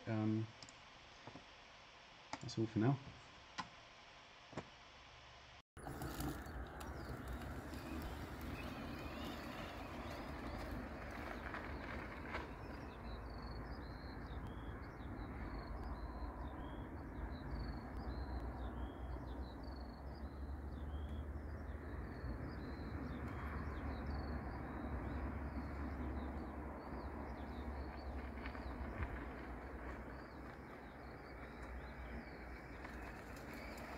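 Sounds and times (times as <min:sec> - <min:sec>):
small birds chirping: 0:05.8 - 0:33.9.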